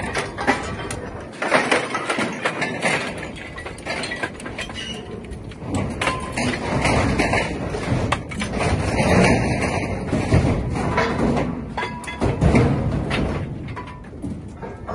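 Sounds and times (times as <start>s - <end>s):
scrap metal clanking: 0.0s - 14.9s.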